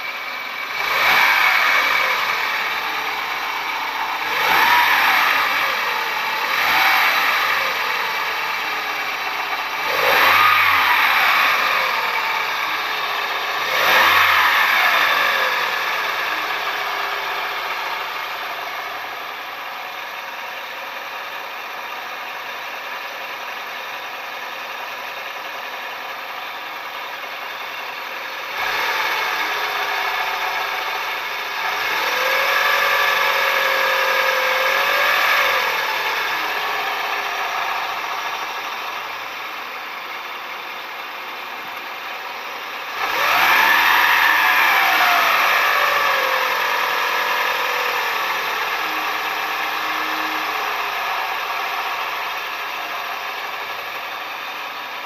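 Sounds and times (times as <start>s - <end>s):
car engine running: 0.0s - 55.0s
engine whine: 0.0s - 55.0s.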